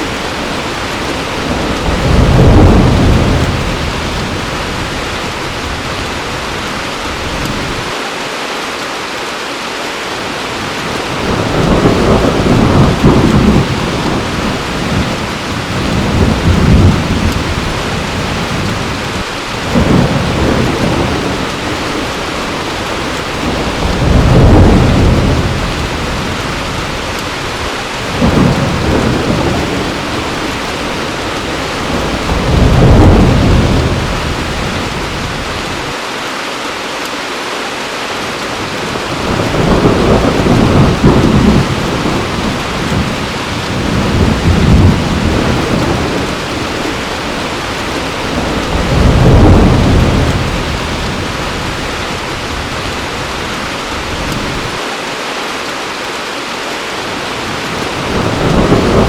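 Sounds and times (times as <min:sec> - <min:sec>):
thunder rumbling: 0:00.0 - 0:08.0, 0:10.6 - 0:36.0, 0:38.6 - 0:54.8, 0:57.3 - 0:59.0
heavy rain falling: 0:00.0 - 0:59.0.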